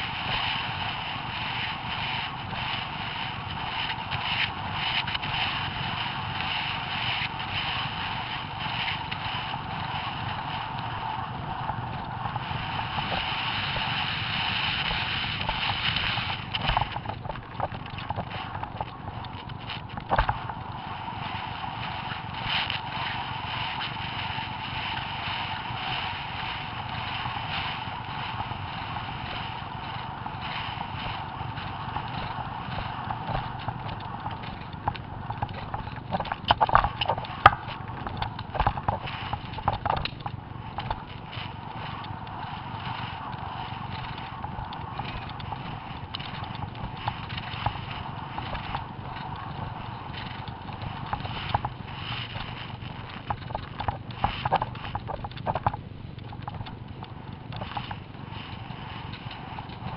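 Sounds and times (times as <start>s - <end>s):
hooves galloping on dirt: 0.0s - 59.9s
wind rush over microphone: 0.0s - 59.9s.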